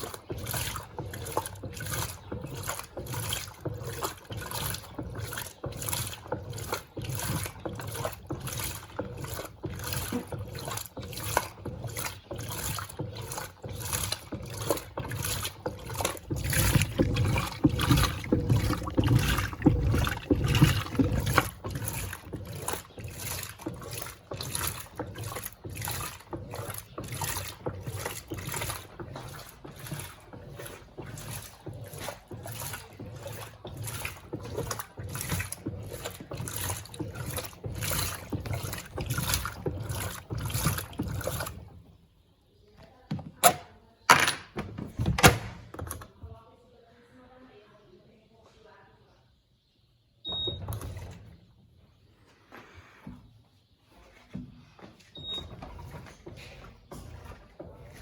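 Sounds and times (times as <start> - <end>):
water sloshing: 0.0 - 46.6, 49.6 - 58.0
washing machine agitating: 0.0 - 46.8, 49.3 - 58.0.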